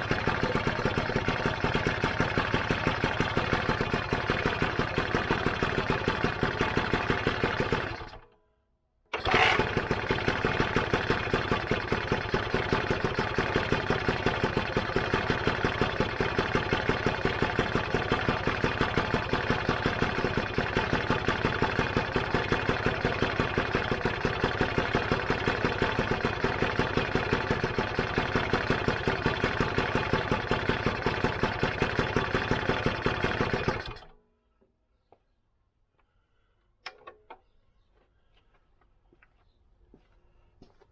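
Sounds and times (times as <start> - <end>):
two-stroke scooter engine running: 0.0 - 8.2, 9.2 - 34.1.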